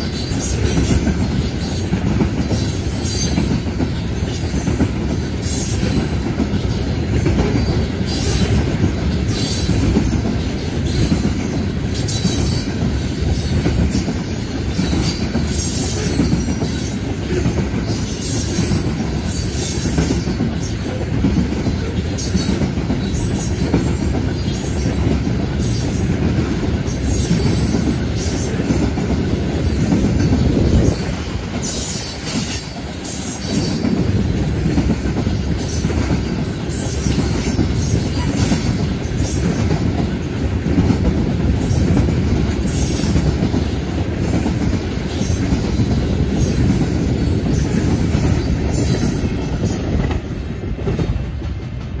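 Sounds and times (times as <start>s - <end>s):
freight train rumbling past: 0.0s - 52.0s.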